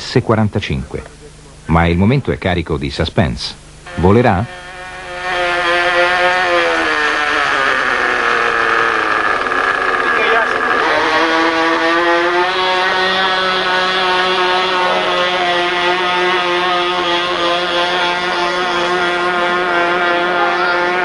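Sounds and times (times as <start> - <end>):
model engine high-pitched buzz: 3.7 - 21.0.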